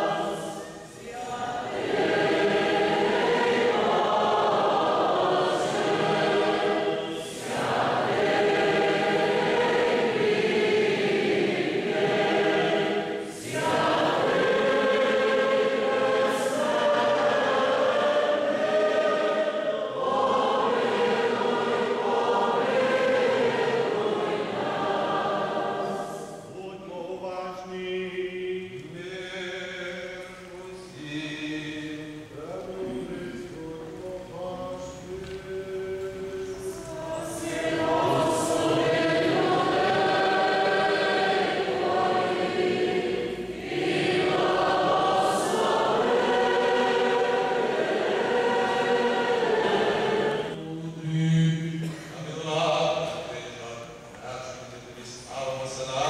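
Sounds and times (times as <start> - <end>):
choir singing a chant: 0.0 - 56.0.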